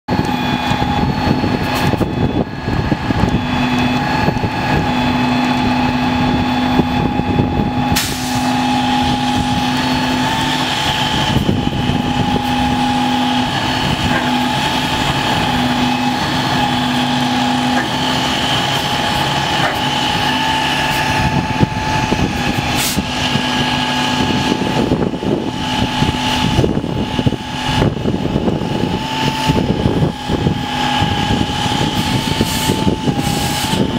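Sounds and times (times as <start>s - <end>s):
steady whine: 0.1s - 33.9s
tow truck diesel engine running: 0.1s - 33.9s.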